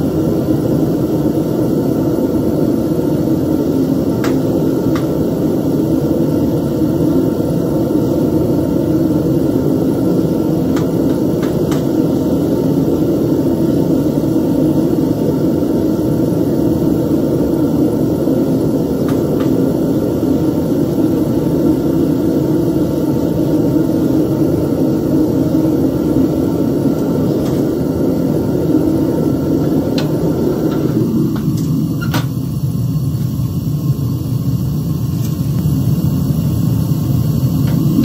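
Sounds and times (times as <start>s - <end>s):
gas burner rushing: 0.0s - 38.0s.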